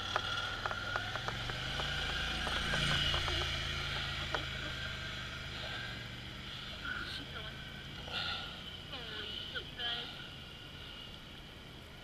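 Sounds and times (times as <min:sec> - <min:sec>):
atv engine running at low revs: 0:00.0 - 0:12.0.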